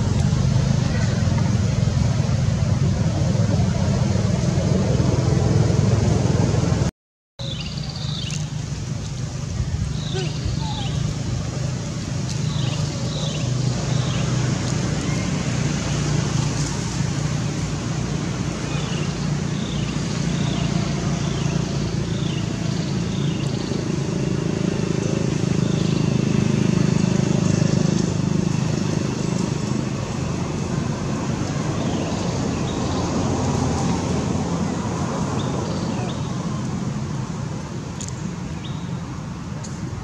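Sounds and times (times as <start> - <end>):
distant road traffic rumble: 0.0 - 40.0.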